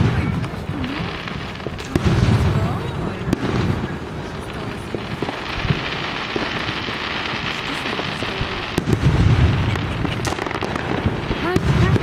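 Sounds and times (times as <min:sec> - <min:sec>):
deep firework burst: 0:00.0 - 0:12.0
fireworks crackling: 0:00.0 - 0:12.0.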